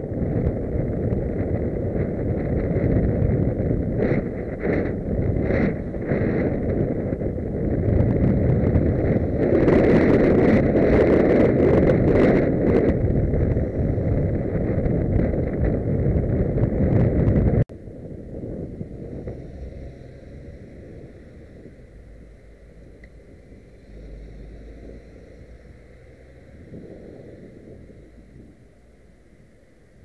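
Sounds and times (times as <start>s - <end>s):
road noise: 0.0s - 30.0s
wind rushing over microphone: 0.0s - 30.0s.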